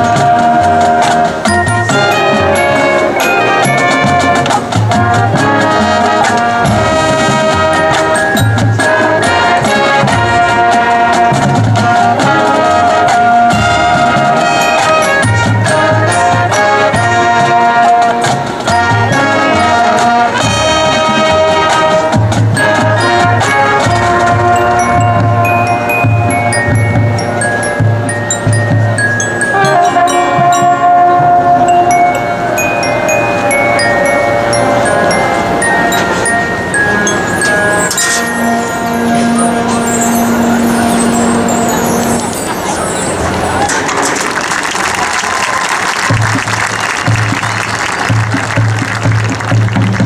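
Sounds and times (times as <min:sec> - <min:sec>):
marching band brass: 0:00.0 - 0:50.0
marching percussion: 0:00.0 - 0:50.0.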